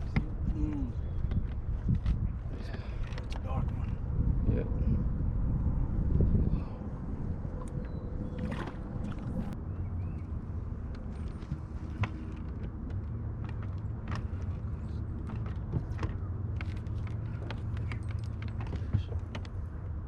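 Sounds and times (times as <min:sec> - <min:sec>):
boat motor humming: 0:00.0 - 0:19.9.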